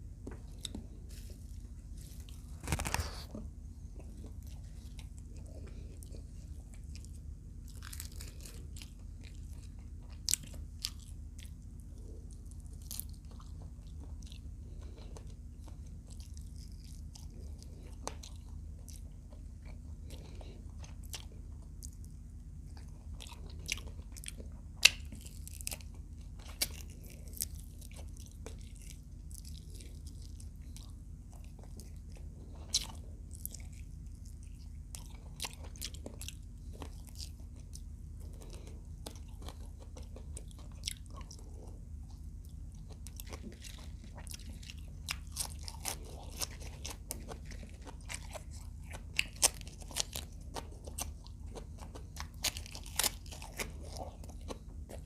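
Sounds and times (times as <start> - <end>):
crunchy chewing: 0.1 - 55.0.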